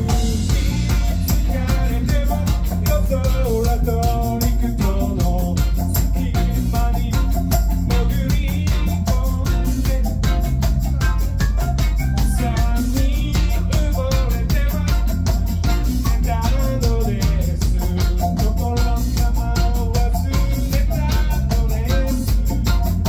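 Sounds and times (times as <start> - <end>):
live band playing: 0.0 - 23.0
tambourine: 0.0 - 23.0
trumpet and trombone melody: 0.0 - 23.0.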